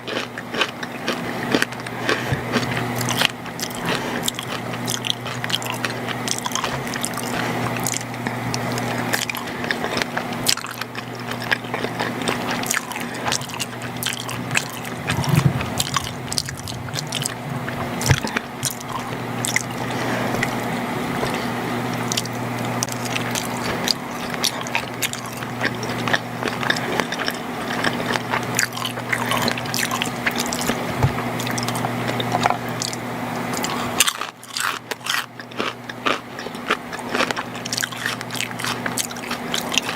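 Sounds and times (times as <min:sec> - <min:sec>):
steady low hum: 0:00.0 - 0:39.9
wet squishy chewing: 0:00.0 - 0:39.9.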